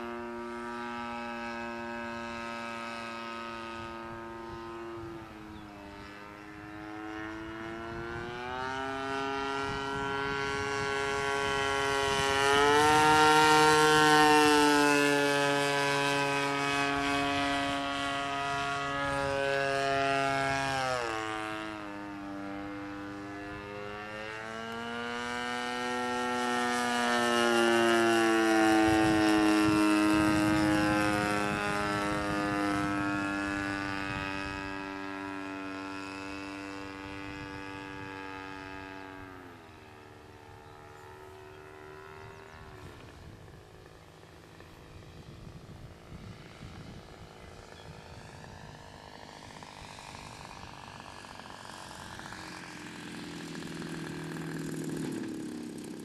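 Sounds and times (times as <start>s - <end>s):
model airplane engine: 0.0s - 56.0s.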